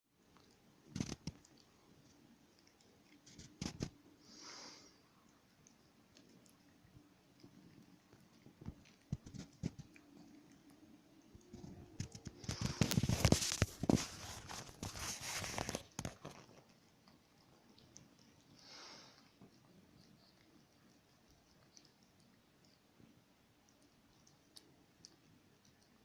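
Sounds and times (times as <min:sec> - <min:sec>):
dog licking and chewing: 0:00.2 - 0:04.2, 0:05.1 - 0:26.0.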